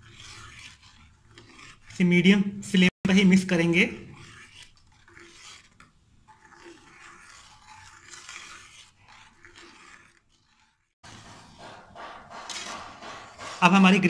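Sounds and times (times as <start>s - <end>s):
ladle scraping metal pot: 0.0s - 14.0s.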